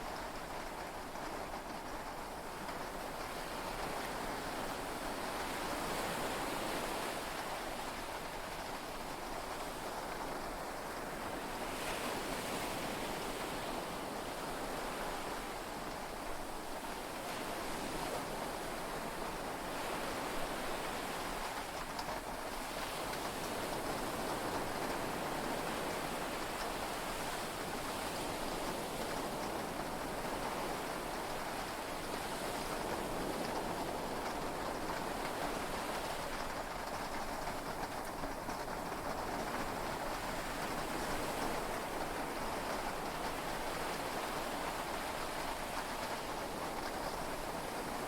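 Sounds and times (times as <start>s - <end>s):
heavy rain on a boat: 0.0s - 48.0s.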